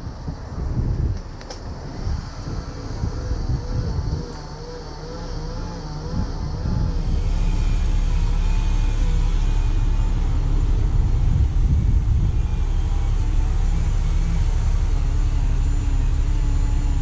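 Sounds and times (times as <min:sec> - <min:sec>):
vehicle engine rumbling: 0:00.0 - 0:17.0
faint wavering tones: 0:02.1 - 0:17.0.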